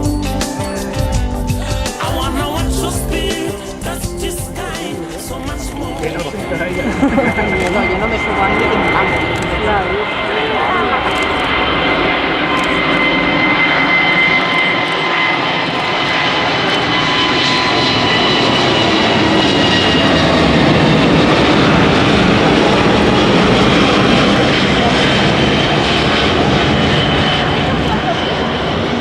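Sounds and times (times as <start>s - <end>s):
jet engines passing by: 2.6s - 29.0s.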